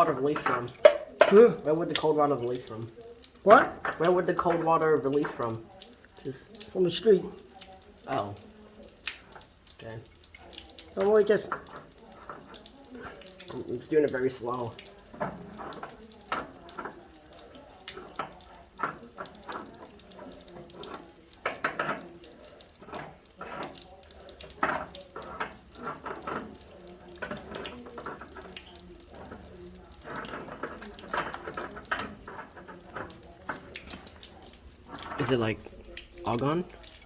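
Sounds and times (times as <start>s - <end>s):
water running and splashing: 0.0s - 37.0s.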